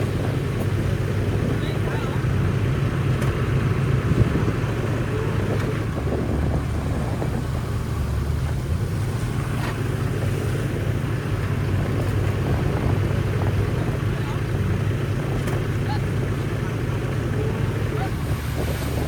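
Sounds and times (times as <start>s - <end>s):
bulldozer diesel engine droning: 0.0s - 19.0s.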